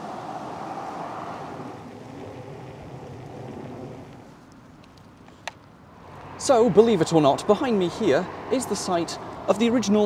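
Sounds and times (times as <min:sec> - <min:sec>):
car passing on tarmac: 0:00.0 - 0:10.0
faint traffic hum: 0:00.0 - 0:10.0.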